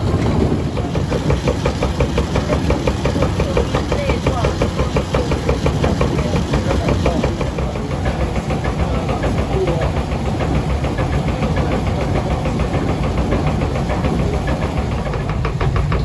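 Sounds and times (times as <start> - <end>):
rapid regular clatter: 0.0 - 16.0
watermill machinery rumbling: 0.0 - 16.0.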